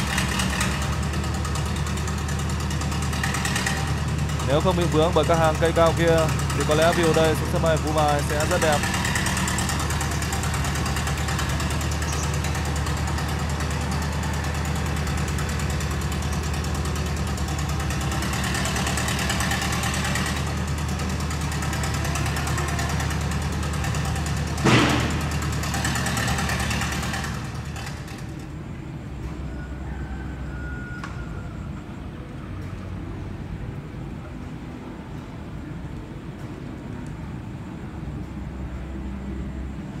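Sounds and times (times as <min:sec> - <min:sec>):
engine humming: 0:00.0 - 0:40.0.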